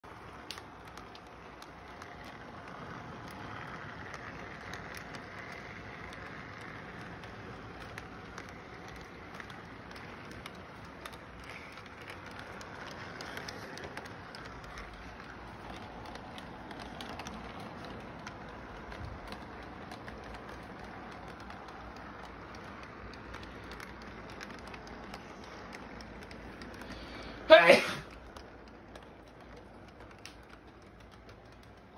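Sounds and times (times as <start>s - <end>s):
model train rumbling on track: 0.0s - 31.9s
small clicks: 0.0s - 31.9s.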